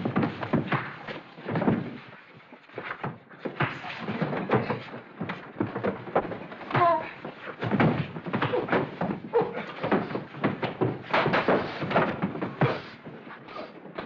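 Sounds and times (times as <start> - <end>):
thuds and knocks of struggle: 0.0 - 14.0.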